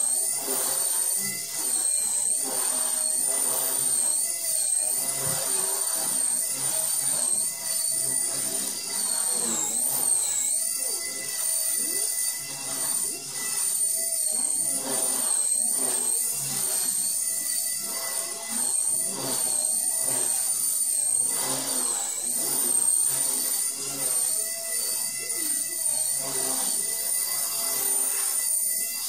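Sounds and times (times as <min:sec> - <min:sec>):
rc helicopter motor whine: 0:00.0 - 0:29.0.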